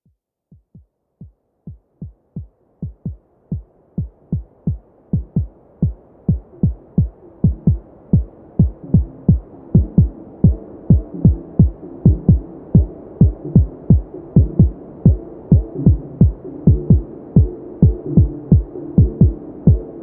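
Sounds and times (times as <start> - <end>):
deep kick drum thumps: 0.5 - 19.8.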